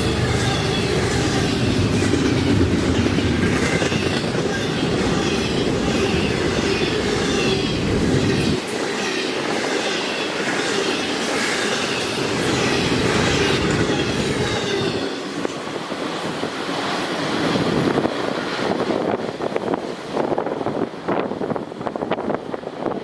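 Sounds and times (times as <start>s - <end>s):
train cars rolling on steel wheels: 0.0s - 23.0s.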